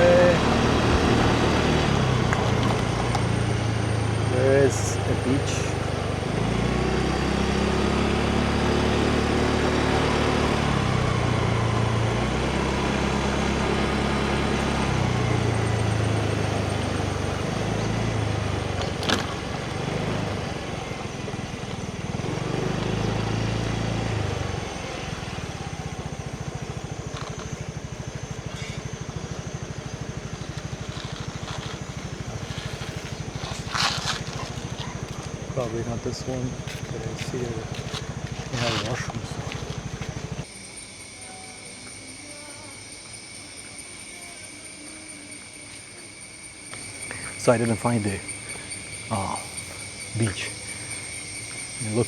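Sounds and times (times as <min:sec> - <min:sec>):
motorbike engine running: 0:00.0 - 0:40.5, 0:46.6 - 0:52.0.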